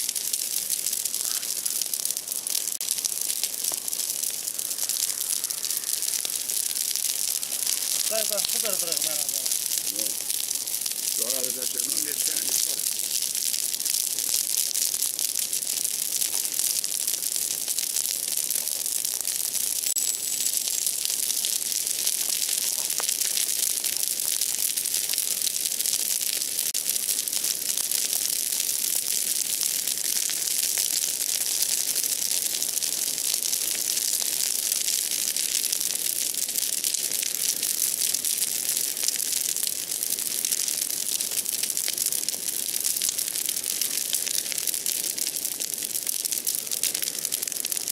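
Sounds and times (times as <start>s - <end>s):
bonfire crackling and hissing: 0.0s - 47.9s.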